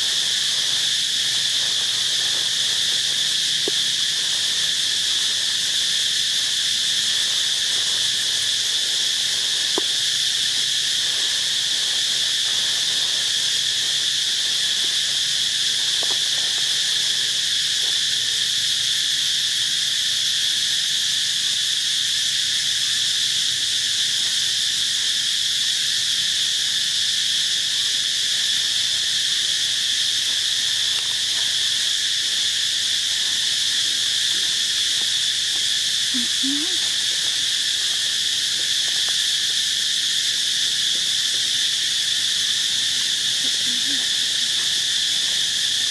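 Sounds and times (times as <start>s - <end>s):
insect chorus buzzing: 0.0s - 45.9s.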